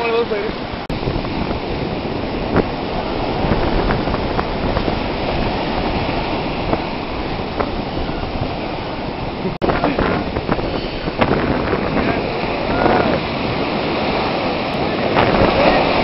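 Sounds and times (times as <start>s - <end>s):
surf roaring on a beach: 0.0s - 16.0s
wind buffeting microphone: 0.0s - 16.0s.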